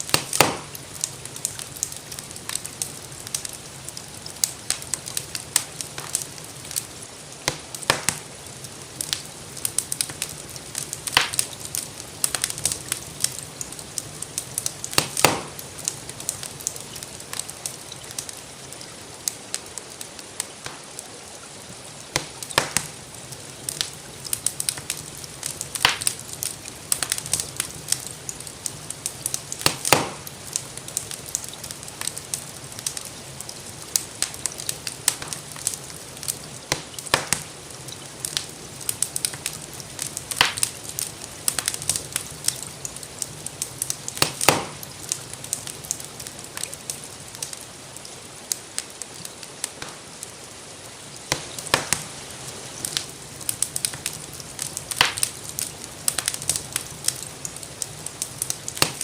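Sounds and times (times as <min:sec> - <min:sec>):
gentle rain hiss: 0:00.0 - 0:59.0
wood fire crackling: 0:00.0 - 0:59.0.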